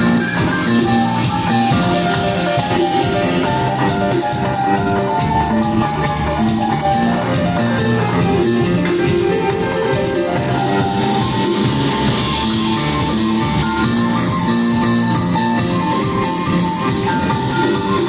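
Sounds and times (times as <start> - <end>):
live band playing loud music: 0.0 - 18.0.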